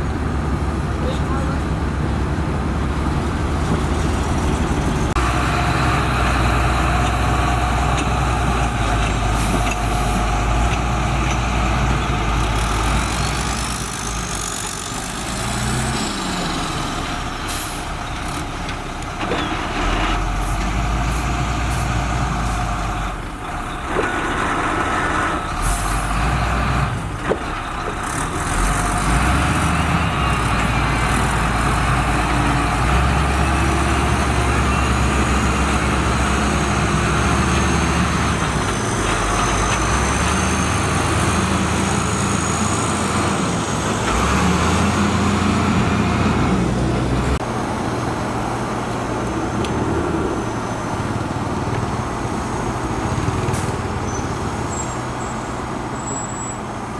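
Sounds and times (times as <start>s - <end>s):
heavy machinery diesel engine running: 0.0s - 56.0s.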